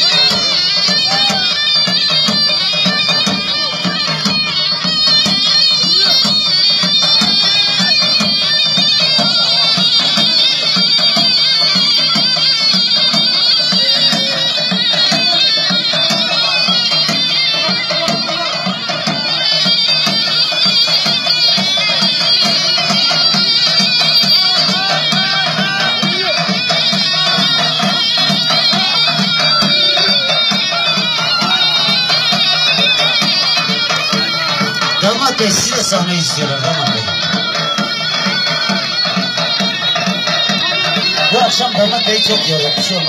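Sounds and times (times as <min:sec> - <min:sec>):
shrill reedy wind melody: 0:00.0 - 0:43.0
steady drum beat: 0:00.0 - 0:43.0.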